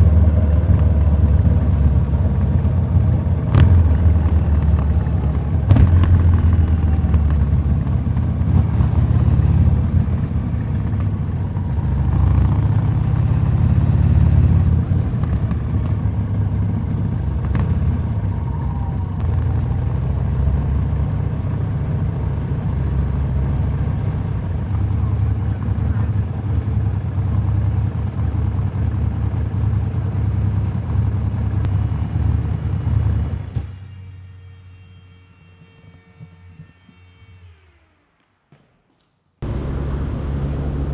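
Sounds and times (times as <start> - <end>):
motorcycle engine revving: 0.0 - 33.8, 39.4 - 40.9.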